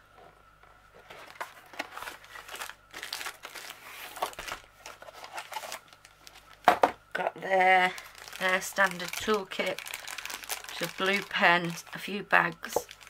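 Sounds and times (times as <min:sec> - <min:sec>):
plastic wrapping crinkling: 0:01.0 - 0:06.8, 0:07.6 - 0:13.0.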